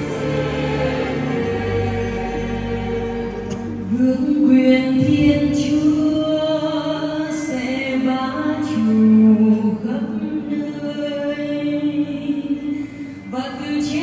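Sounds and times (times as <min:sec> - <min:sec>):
choir singing over loudspeakers: 0:00.0 - 0:14.0.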